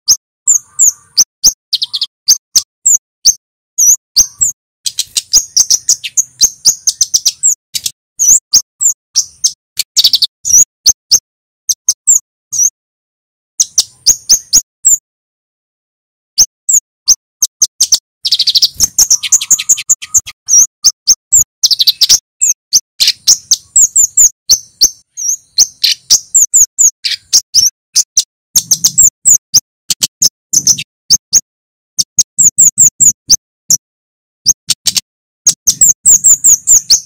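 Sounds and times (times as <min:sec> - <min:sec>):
bird chip calls: 0:00.0 - 0:12.8, 0:13.6 - 0:15.0, 0:16.4 - 0:37.0
bird trills: 0:00.1 - 0:12.8, 0:13.6 - 0:15.0, 0:16.4 - 0:33.8, 0:34.4 - 0:37.0.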